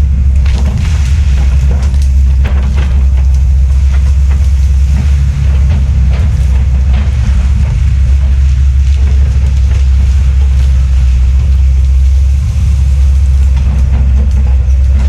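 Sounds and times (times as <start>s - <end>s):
diesel engine rumbling: 0.0s - 15.0s
sharp cracks: 0.3s - 15.0s.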